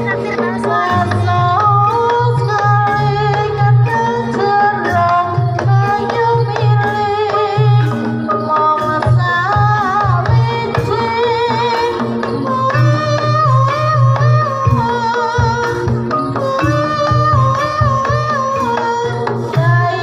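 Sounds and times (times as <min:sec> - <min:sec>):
melody with bending notes: 0:00.0 - 0:20.0.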